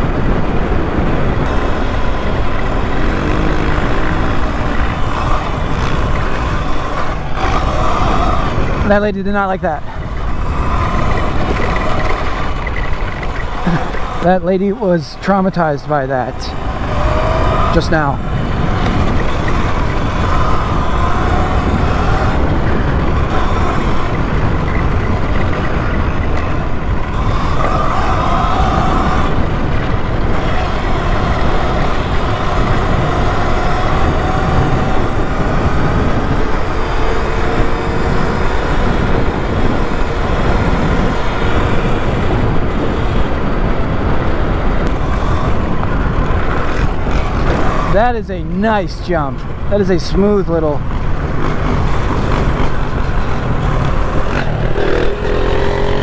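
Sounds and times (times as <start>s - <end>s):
wind on microphone: 0.0s - 56.0s
tyre rumble: 1.0s - 14.8s, 16.1s - 56.0s
electric motor whine: 1.4s - 14.8s, 16.2s - 56.0s.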